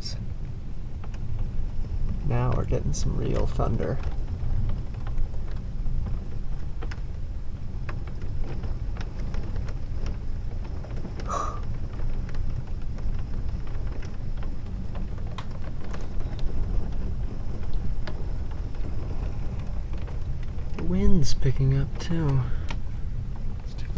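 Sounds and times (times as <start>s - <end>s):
raindrops ticking: 0.0s - 23.9s
steady low rumble: 0.0s - 23.9s.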